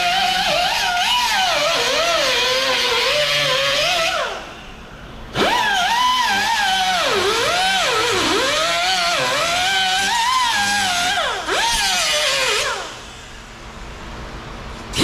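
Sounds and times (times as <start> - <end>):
air cut-off tool whining: 0.0 - 14.0.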